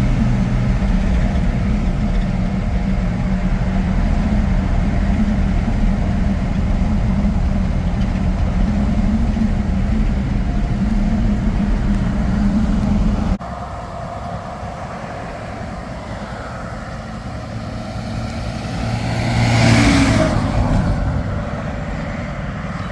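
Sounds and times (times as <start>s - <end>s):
diesel truck engine running: 0.0s - 22.9s
truck driving by: 0.0s - 22.9s.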